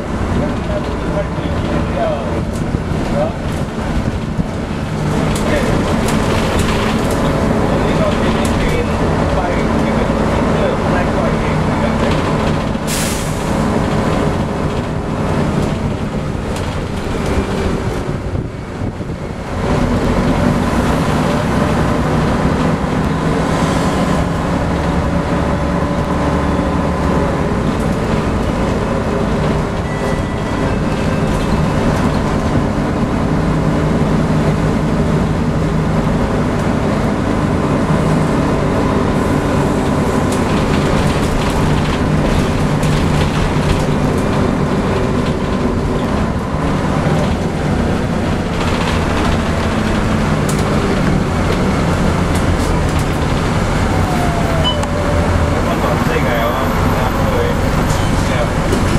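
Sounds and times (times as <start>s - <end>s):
bus body rattling: 0.0s - 58.9s
bus diesel engine: 0.0s - 58.9s
road noise: 0.0s - 58.9s.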